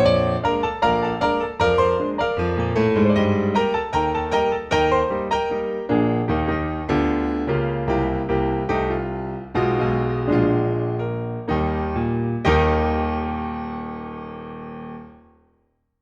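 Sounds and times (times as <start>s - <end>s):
ragtime piano music: 0.0s - 15.2s.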